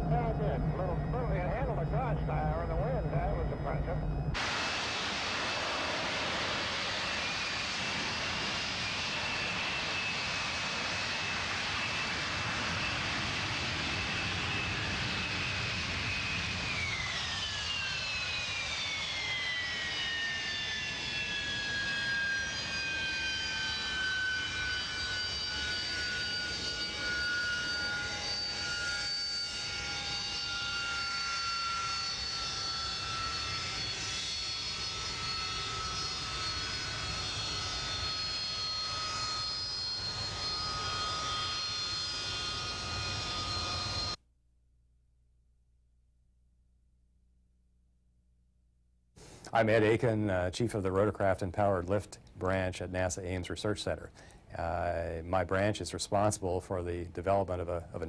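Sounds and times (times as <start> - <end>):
jet engine whine and roar: 0.0 - 44.2, 49.3 - 58.0.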